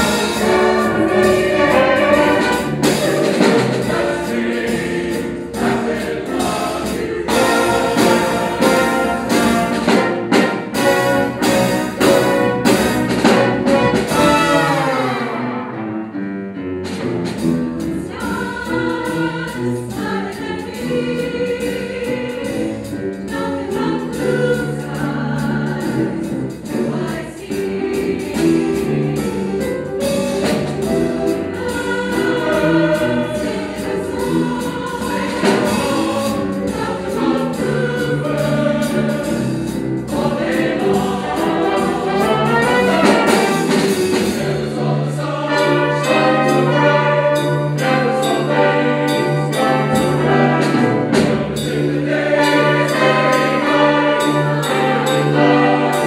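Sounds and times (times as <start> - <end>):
mixed choir singing: 0.0 - 15.8, 17.8 - 56.0
instrumental accompaniment: 0.0 - 56.0.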